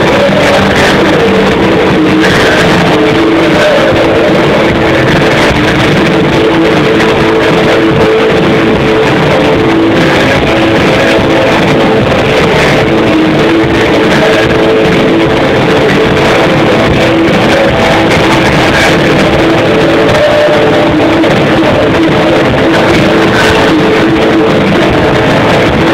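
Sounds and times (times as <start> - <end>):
rock band playing live: 0.0 - 25.9.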